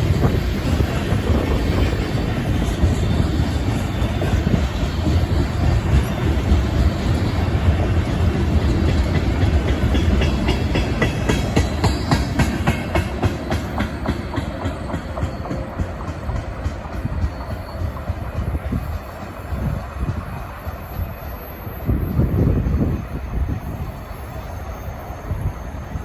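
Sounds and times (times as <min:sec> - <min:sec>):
freight train rumbling past: 0:00.0 - 0:26.0
train wheels clicking over rail joints: 0:00.0 - 0:26.0.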